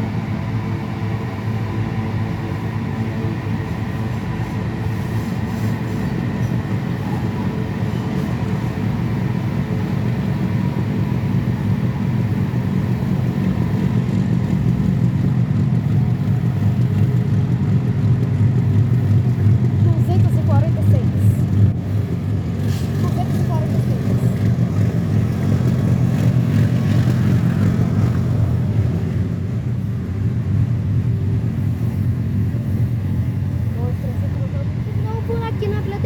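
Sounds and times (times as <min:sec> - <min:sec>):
freight train rumbling past: 0:00.0 - 0:36.0.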